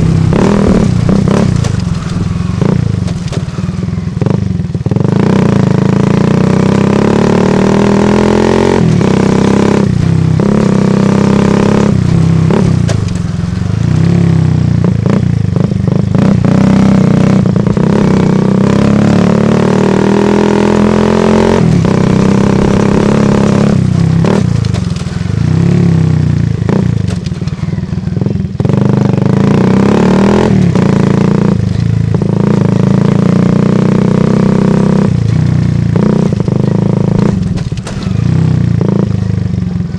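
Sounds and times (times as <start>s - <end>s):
motorcycle exhaust: 0.0s - 39.9s.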